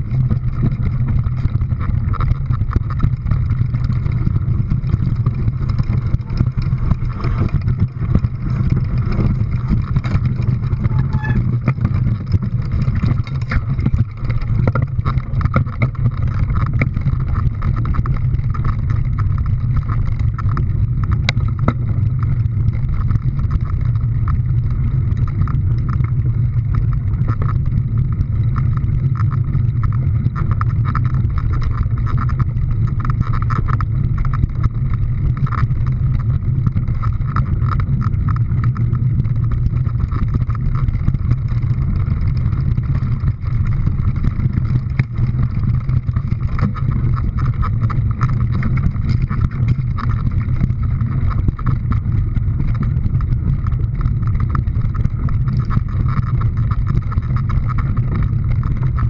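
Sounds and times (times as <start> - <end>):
vehicle engine rumble: 0.0 - 59.0.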